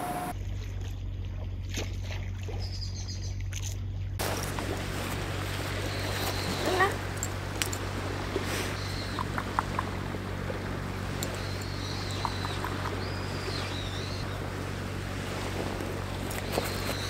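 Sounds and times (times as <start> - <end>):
distant boat engine droning: 0.0 - 17.0.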